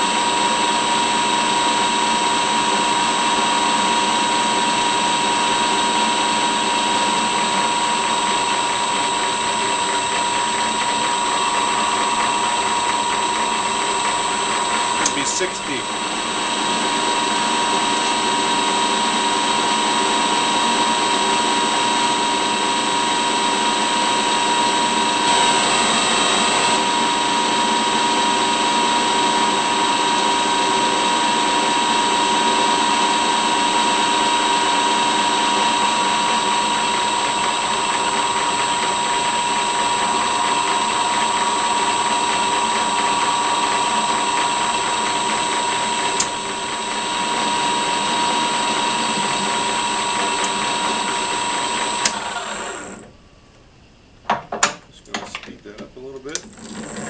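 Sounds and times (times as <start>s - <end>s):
metal lathe humming and whining: 0.0s - 53.3s, 56.4s - 57.0s.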